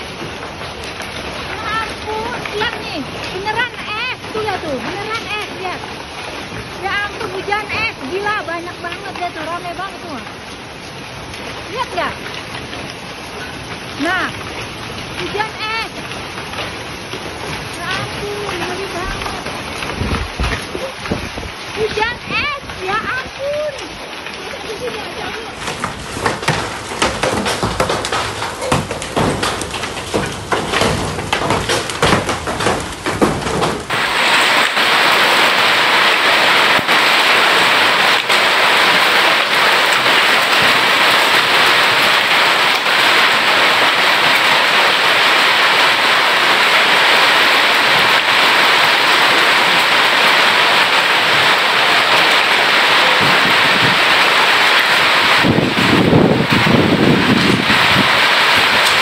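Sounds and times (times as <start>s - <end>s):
hailstones clattering: 0.0s - 59.0s
heavy rain hissing: 0.0s - 59.0s.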